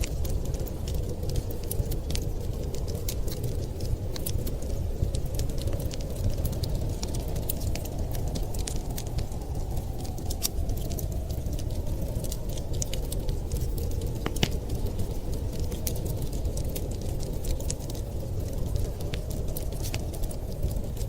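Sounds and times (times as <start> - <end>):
low rumble of wind: 0.0 - 21.0
wood fire crackling and popping: 0.0 - 21.0.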